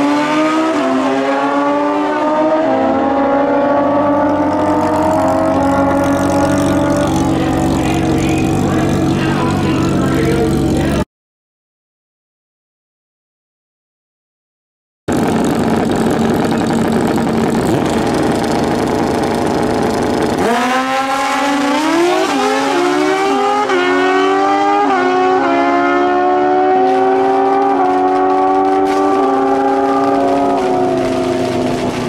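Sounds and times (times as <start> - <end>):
motorcycle engine accelerating: 0.0 - 11.1, 15.1 - 32.0.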